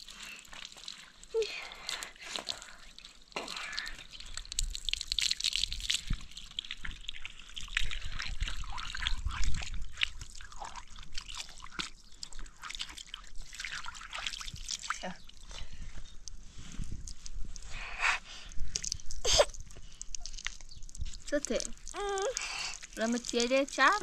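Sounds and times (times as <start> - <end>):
hose water splashing on concrete: 0.0 - 15.5, 18.6 - 24.0.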